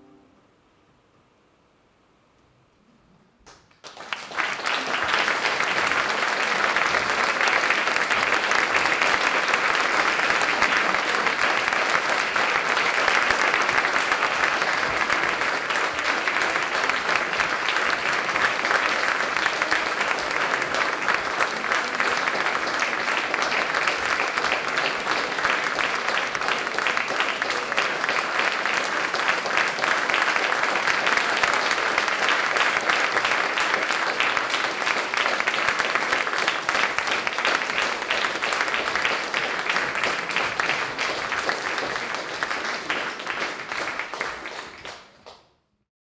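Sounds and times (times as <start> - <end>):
audience applause: 3.4 - 45.5.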